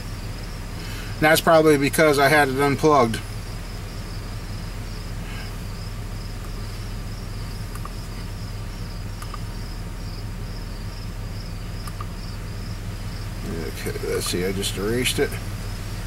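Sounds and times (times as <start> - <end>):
cricket chirping: 0.0 - 16.0
truck engine idling: 0.0 - 16.0.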